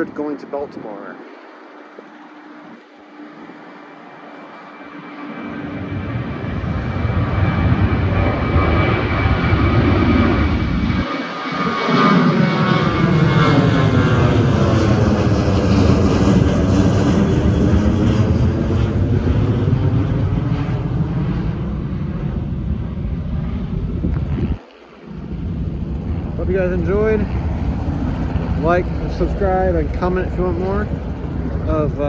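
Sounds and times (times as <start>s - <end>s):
jet airliner roaring past: 0.0s - 32.0s.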